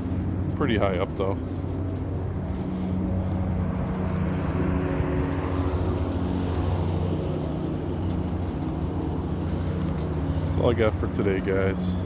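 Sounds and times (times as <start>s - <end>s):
broad rushing noise: 0.0s - 12.0s
low mechanical hum: 0.0s - 12.0s.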